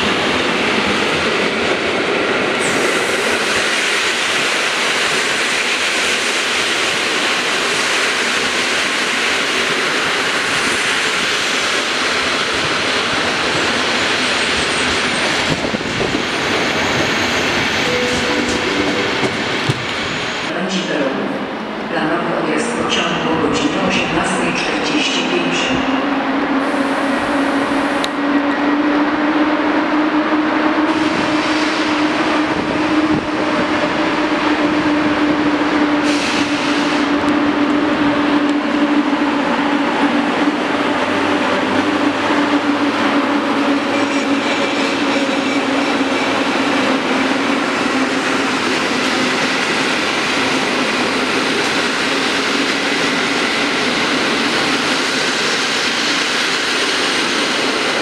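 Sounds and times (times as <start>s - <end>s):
wheels rumbling on rail: 0.0s - 20.6s, 21.6s - 58.0s
electric locomotive hum: 0.0s - 58.0s.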